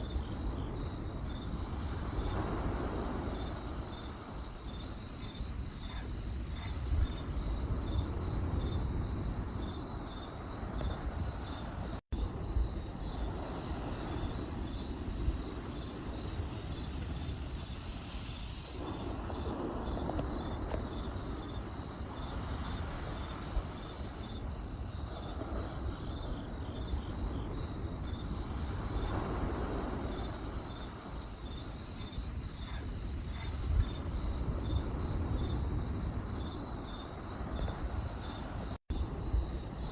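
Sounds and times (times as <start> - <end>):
campfire rumble: 0.0 - 39.9
crickets chirping: 0.0 - 39.9.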